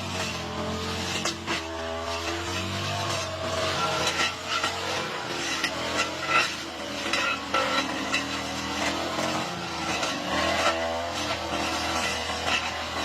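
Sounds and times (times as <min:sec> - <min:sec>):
lawn mower engine running: 0:00.0 - 0:13.0
stems striking mower blade: 0:00.0 - 0:13.0.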